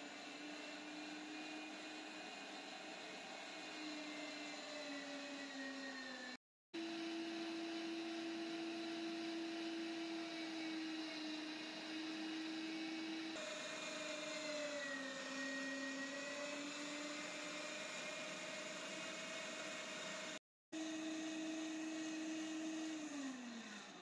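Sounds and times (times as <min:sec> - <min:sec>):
electric meat grinder humming: 0:00.0 - 0:24.0.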